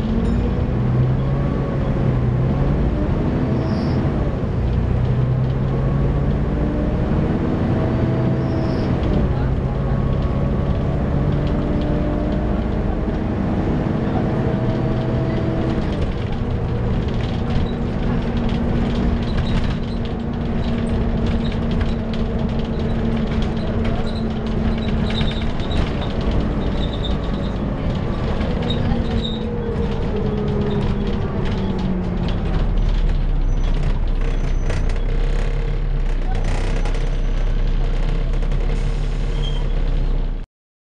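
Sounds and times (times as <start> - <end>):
bus engine and fan drone: 0.0 - 40.4.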